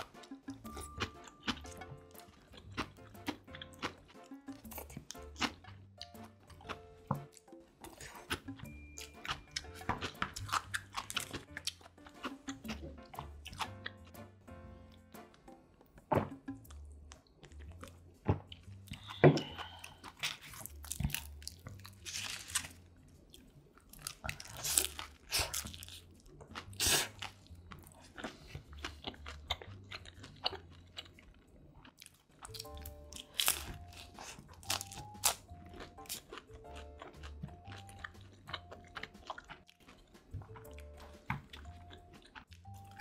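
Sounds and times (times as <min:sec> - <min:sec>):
crunchy pizza chewing: 0:00.0 - 0:14.1, 0:17.1 - 0:43.0
soft background music: 0:00.0 - 0:43.0.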